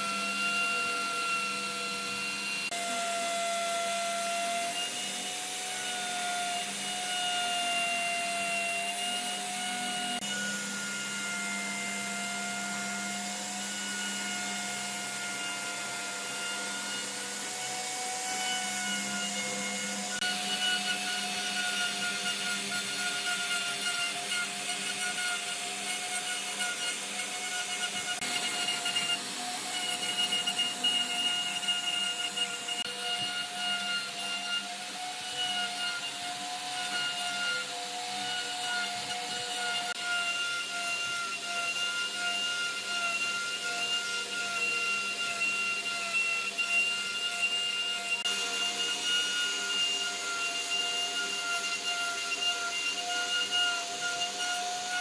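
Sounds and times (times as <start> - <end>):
power tool motor whine: 0.0 - 55.0
tool rasping on surface: 0.6 - 55.0.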